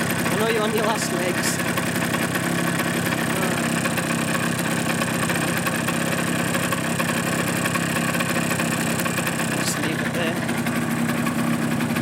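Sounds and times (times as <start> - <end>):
two-stroke engine idling rattling: 0.0 - 12.0.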